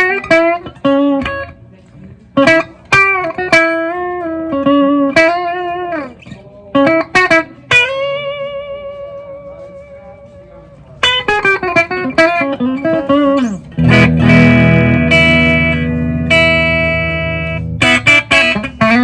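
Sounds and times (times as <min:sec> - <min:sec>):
electric guitar lead line: 0:00.0 - 0:01.6, 0:02.4 - 0:10.4, 0:11.0 - 0:19.0
guitar chords ringing: 0:00.0 - 0:01.6, 0:02.3 - 0:19.0.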